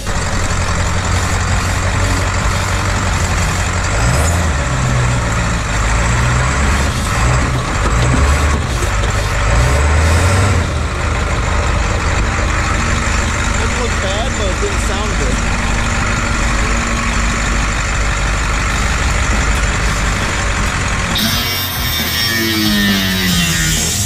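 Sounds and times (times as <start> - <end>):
diesel engine rumble: 0.0 - 24.0
tyre and trail noise: 0.0 - 24.0.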